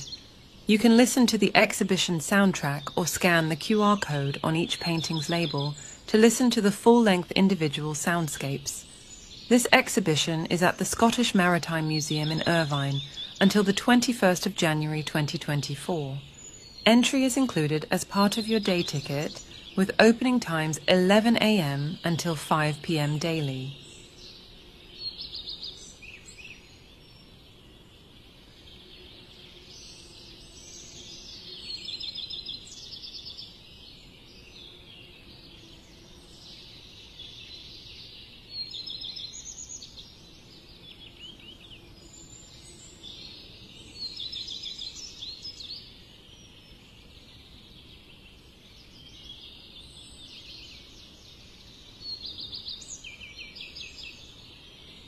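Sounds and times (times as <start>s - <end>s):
birds singing: 0.0s - 55.0s
low background noise: 0.0s - 55.0s.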